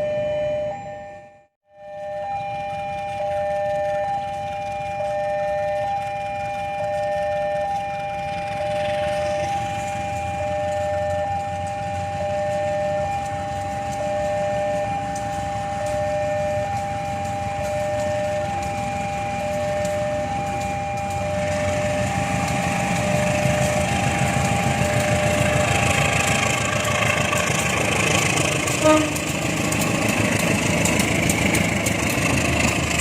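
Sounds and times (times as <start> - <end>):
level-crossing alarm tones: 0.0 - 33.0
low traffic rumble: 1.8 - 33.0.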